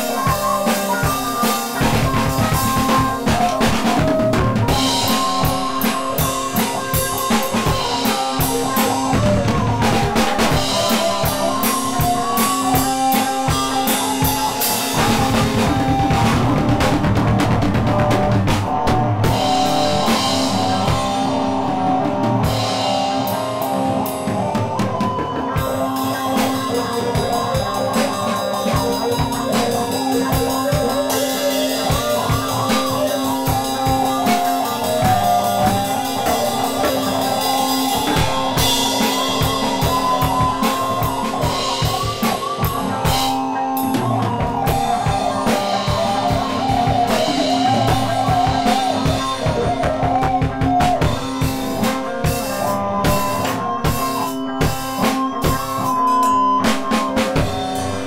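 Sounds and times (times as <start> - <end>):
drum kit beat: 0.0 - 58.0
rock music: 0.0 - 58.0.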